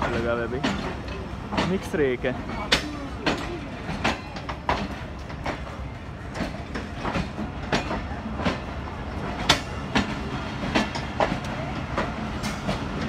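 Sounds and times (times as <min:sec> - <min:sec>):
train low rumble: 0:00.0 - 0:13.0
train wheels clacking over rail joints: 0:00.0 - 0:13.0.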